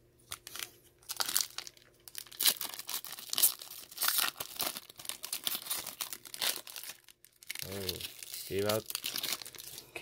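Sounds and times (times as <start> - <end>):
foil wrapper crinkling: 0.3 - 10.0.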